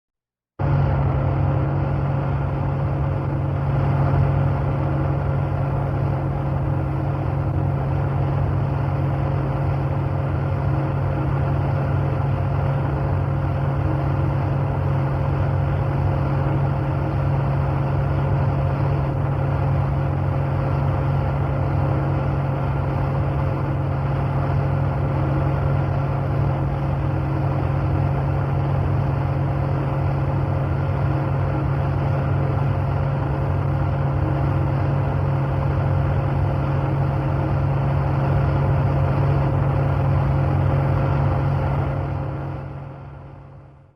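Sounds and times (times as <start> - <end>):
engine and road drone: 0.6 - 43.9.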